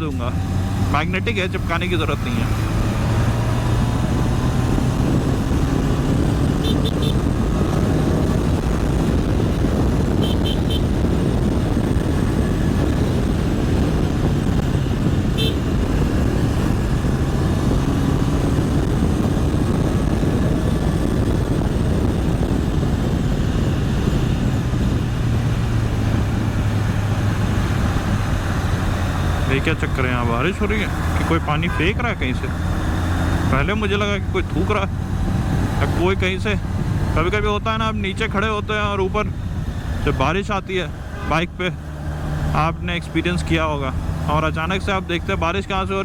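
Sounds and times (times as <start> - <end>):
motorcycle engine running: 0.0 - 46.0
road noise: 0.0 - 46.0
wind rush: 0.0 - 46.0.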